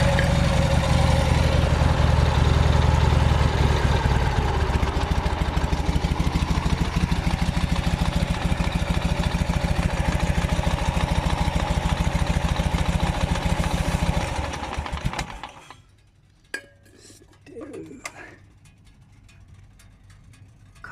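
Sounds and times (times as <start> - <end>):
engine idling: 0.0 - 20.9.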